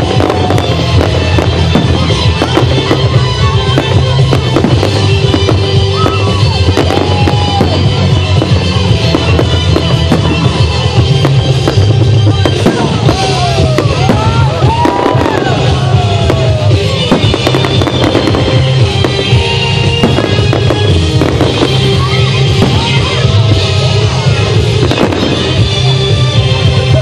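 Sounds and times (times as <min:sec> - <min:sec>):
firework bangs and crackles: 0:00.0 - 0:27.0
firework whistles: 0:00.0 - 0:27.0
loud music with heavy bass: 0:00.0 - 0:27.0.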